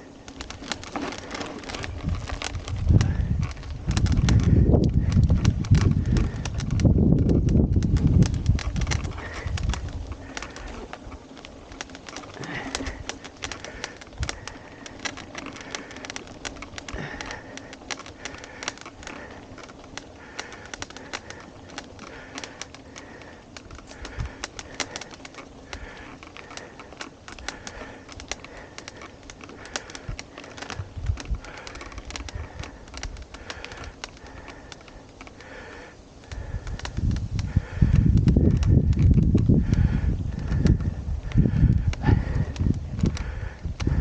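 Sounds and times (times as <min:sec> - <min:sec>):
bike clicking and rattling: 0:00.0 - 0:44.0
tyres crunching over dirt: 0:00.0 - 0:44.0.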